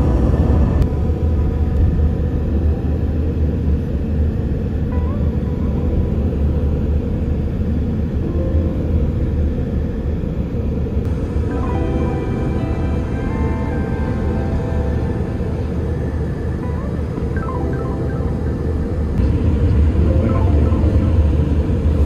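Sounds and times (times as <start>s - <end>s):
vehicle road and engine rumble: 0.0s - 22.0s.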